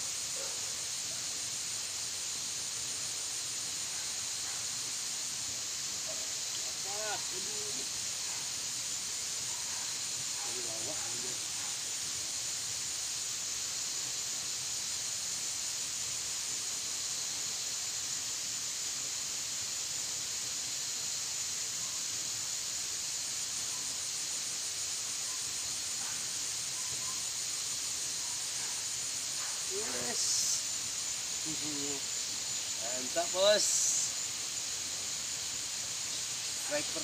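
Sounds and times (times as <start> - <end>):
high-pitched insect drone: 0.0 - 37.0.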